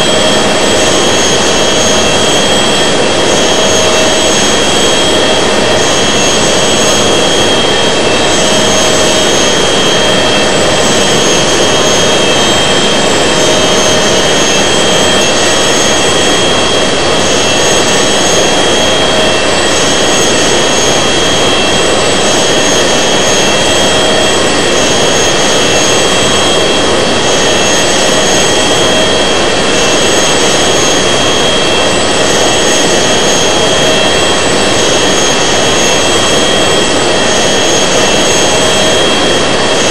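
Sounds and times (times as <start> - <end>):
jet engine roar in cabin: 0.0 - 39.9
thin high whine: 0.0 - 39.9.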